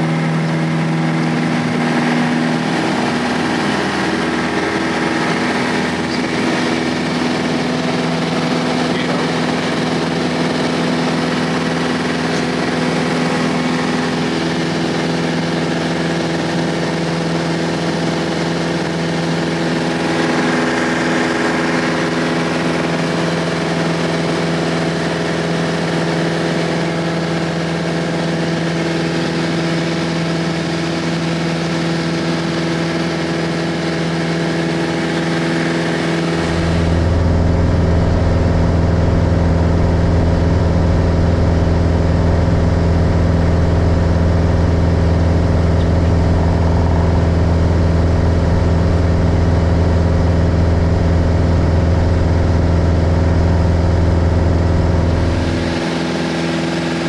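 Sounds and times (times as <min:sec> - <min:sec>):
light airplane engine and propeller: 0:00.0 - 0:57.0.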